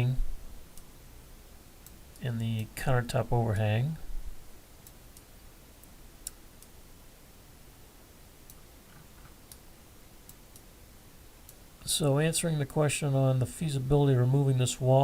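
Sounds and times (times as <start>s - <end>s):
quiet room hiss: 0.0s - 15.0s.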